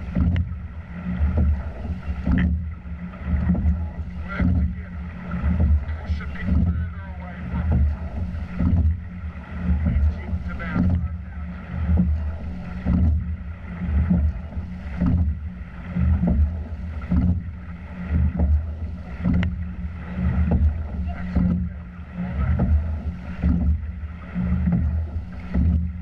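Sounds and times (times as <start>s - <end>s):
oars knocking: 0.0s - 26.0s
water rushing along hull: 0.0s - 26.0s.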